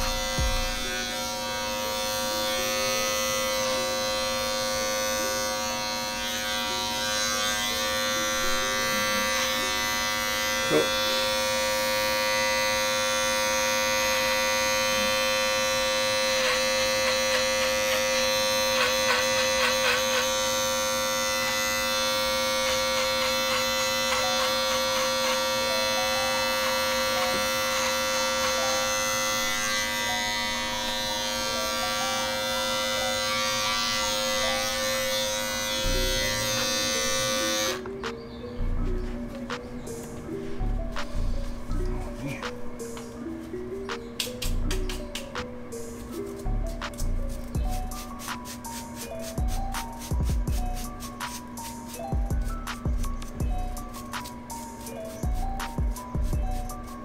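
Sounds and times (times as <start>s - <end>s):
electric hair clippers buzzing: 0.0s - 37.9s, 44.2s - 57.0s.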